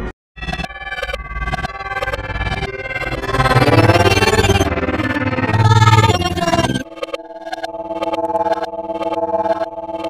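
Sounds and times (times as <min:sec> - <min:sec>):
held synth chord: 0:00.7 - 0:10.0.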